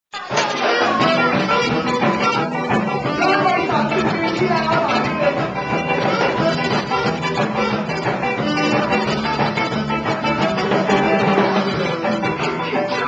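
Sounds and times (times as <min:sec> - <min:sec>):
live band playing: 0:00.2 - 0:13.0
saxophone: 0:00.2 - 0:13.0.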